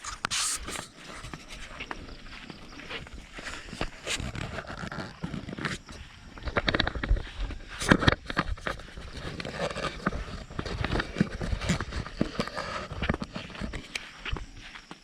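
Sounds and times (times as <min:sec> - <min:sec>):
footsteps crunching on ground: 0:00.0 - 0:15.0.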